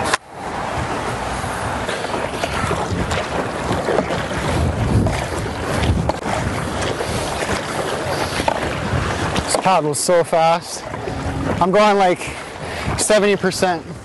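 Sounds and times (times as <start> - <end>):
paddle strokes splashing water: 0.0 - 14.0
wind buffeting microphone: 0.0 - 14.0.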